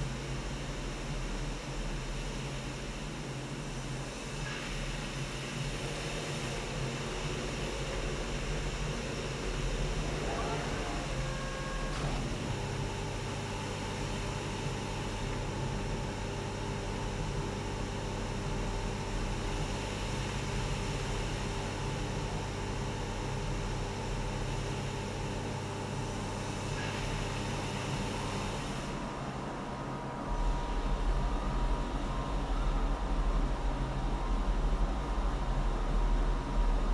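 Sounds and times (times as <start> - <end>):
factory machinery hum and hiss: 0.0 - 36.9.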